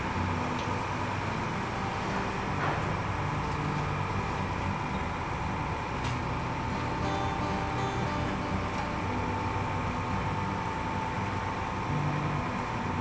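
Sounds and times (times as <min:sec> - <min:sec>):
ferry engine humming: 0:00.0 - 0:13.0.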